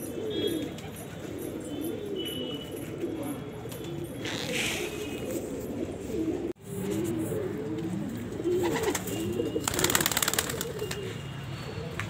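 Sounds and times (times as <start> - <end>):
pigeons cooing: 0.0 - 11.2.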